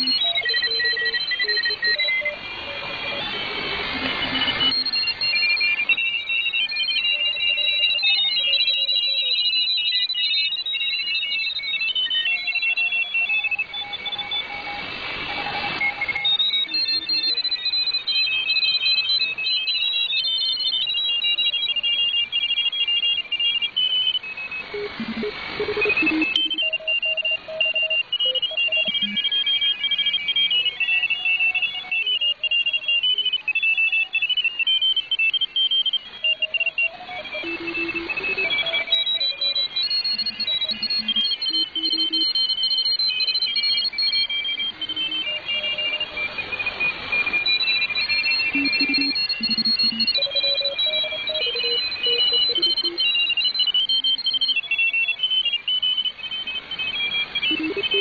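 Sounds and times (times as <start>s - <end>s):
radio band hiss: 0.0s - 53.7s, 54.5s - 58.0s
radio signals beeping: 0.0s - 58.0s.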